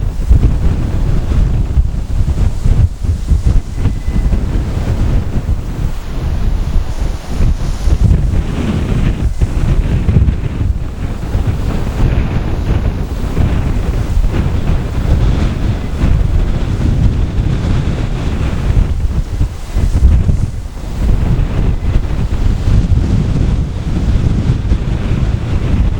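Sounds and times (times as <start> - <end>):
gusty wind buffeting microphone: 0.0 - 25.9.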